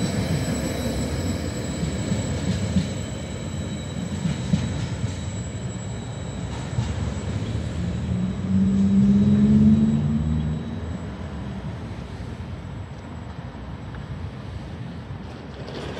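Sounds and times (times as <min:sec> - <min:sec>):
train wagons rumbling on rails: 0:00.0 - 0:15.9.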